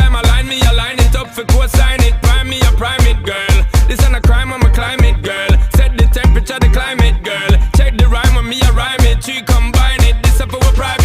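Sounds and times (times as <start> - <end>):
song with heavy bass beat: 0.0 - 11.0
vocal line: 0.0 - 11.0.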